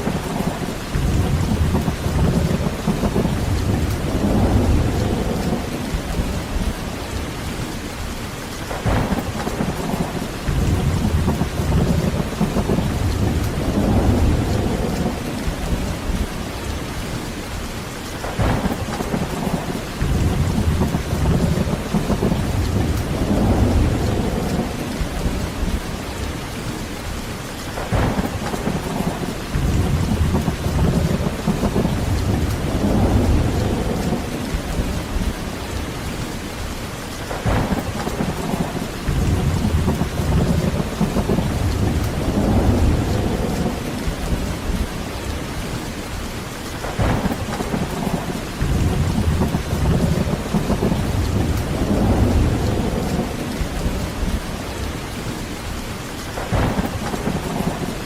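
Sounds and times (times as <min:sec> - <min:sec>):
sharp thunderclaps: 0:00.0 - 0:06.8, 0:08.7 - 0:16.4, 0:18.2 - 0:25.9, 0:27.8 - 0:35.5, 0:37.3 - 0:45.1, 0:46.8 - 0:54.6, 0:56.4 - 0:58.0
low rolling thunder rumble: 0:00.0 - 0:17.5, 0:18.2 - 0:27.2, 0:27.8 - 0:58.0
heavy rain: 0:00.0 - 0:58.0.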